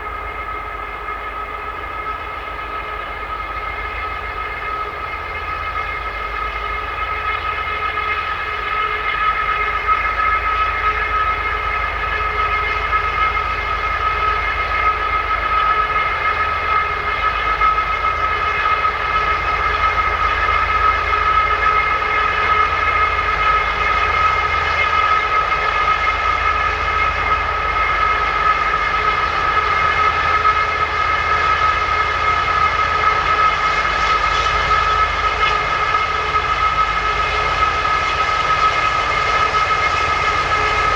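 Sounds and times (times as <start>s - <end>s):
locomotive high whine: 0.0s - 40.9s.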